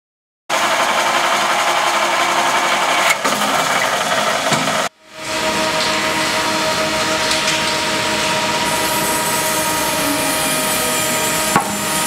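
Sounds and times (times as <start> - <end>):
workshop machinery running: 0.5 - 12.0.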